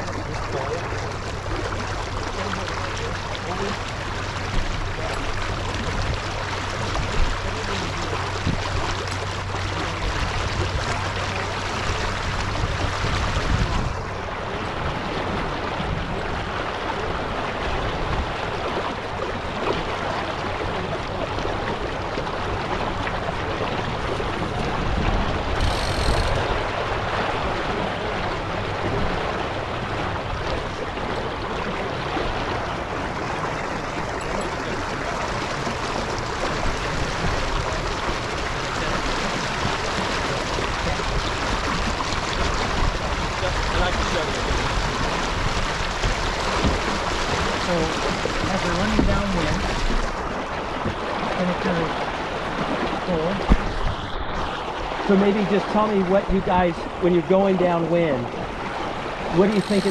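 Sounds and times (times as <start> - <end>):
water rushing along boat hull: 0.0 - 59.9.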